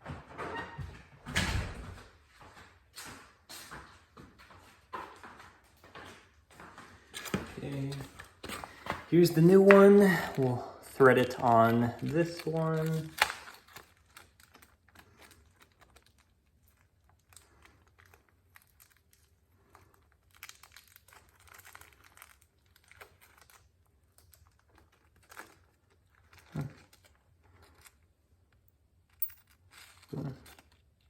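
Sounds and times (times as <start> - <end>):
hands crinkling and rustling: 2.5 - 31.0.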